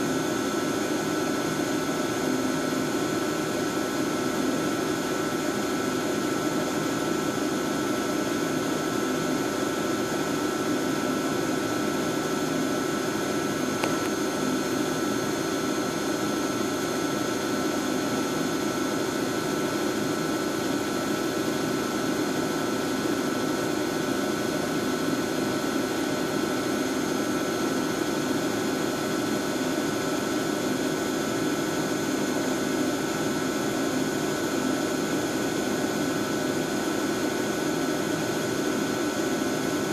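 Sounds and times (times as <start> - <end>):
high machine whine: 0.0 - 39.9.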